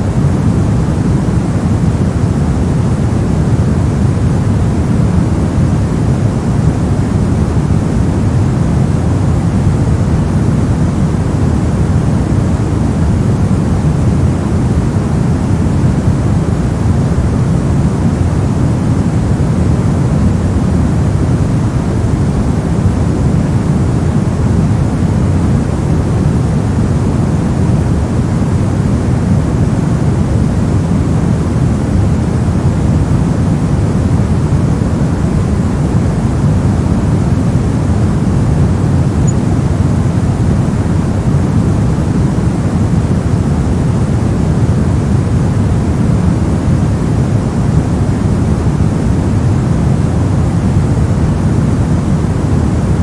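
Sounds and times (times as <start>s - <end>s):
white noise: 0.0s - 53.0s.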